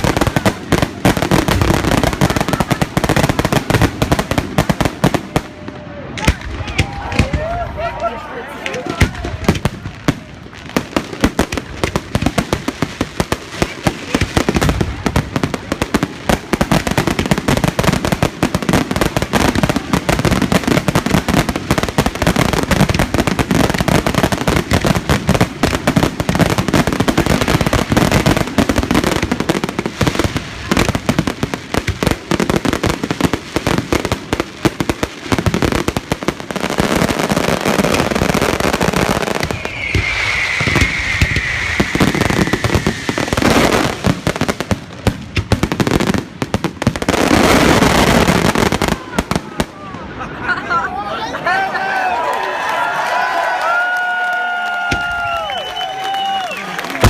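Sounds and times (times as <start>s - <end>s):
fireworks bangs and crackles: 0.0s - 50.4s, 52.6s - 57.0s.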